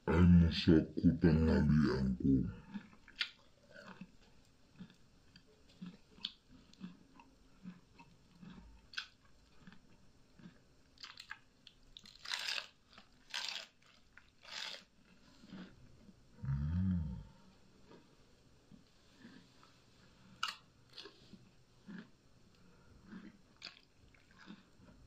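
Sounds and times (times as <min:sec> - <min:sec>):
chewing crisp lettuce: 0:01.4 - 0:17.2, 0:17.8 - 0:25.0.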